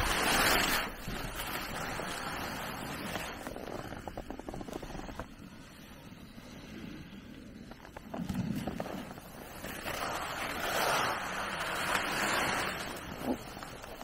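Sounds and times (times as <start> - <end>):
skis scraping over snow: 0.0 - 14.0
wind buffeting microphone: 0.0 - 14.0.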